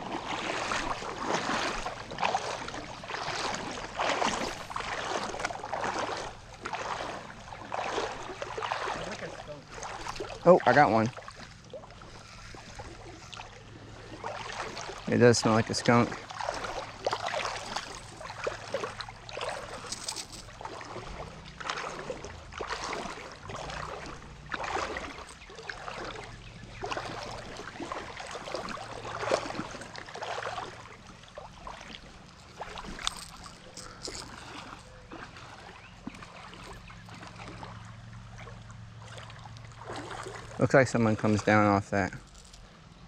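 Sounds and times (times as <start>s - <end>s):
sloshing in shallow water: 0.0s - 43.0s.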